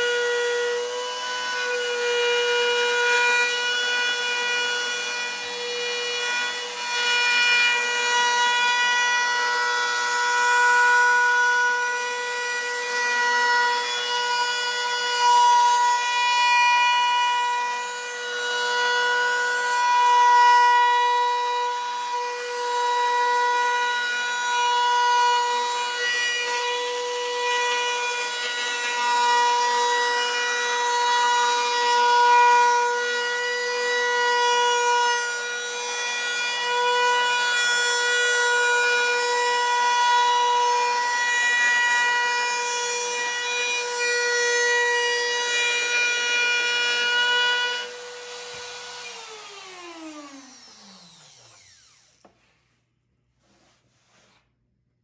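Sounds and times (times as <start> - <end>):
router cutting wood: 0.0 - 52.4.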